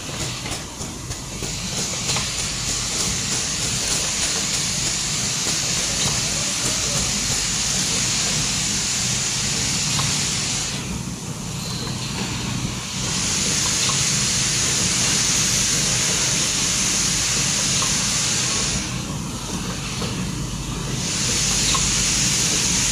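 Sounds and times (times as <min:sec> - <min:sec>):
loud hiss: 0:00.0 - 0:11.0, 0:12.6 - 0:19.1, 0:20.9 - 0:22.9
machine mechanical hum: 0:00.0 - 0:22.9.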